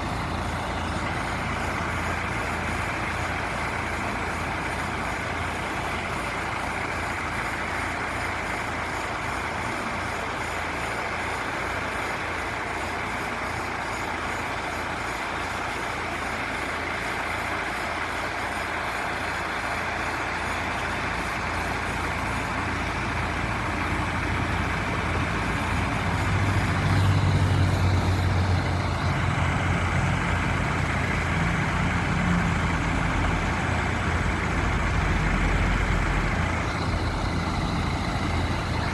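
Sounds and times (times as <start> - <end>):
vacuum truck engine running: 0.0 - 38.9.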